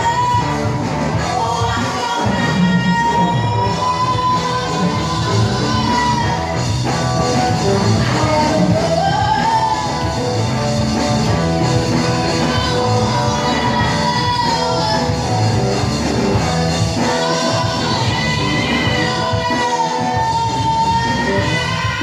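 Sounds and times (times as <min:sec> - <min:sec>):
person singing into a microphone: 0:00.0 - 0:10.6, 0:11.2 - 0:15.7, 0:16.7 - 0:22.0
live band playing: 0:00.0 - 0:22.0.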